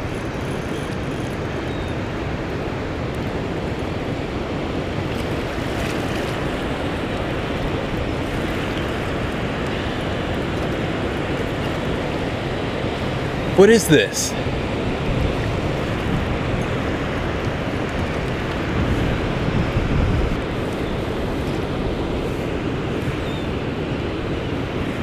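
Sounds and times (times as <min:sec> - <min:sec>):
water rushing through spillway: 0:02.7 - 0:25.0.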